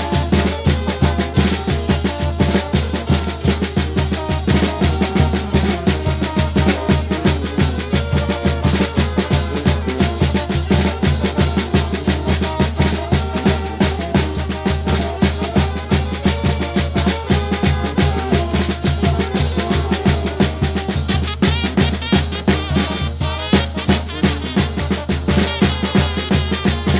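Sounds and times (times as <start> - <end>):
brass band music: 0.0 - 26.9.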